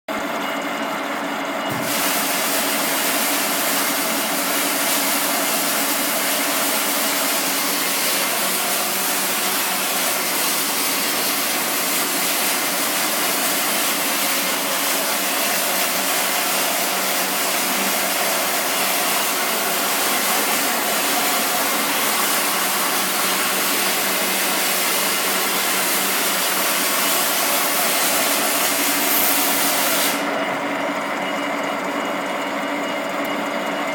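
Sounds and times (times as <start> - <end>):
welding arc crackling hiss: 1.7 - 30.3.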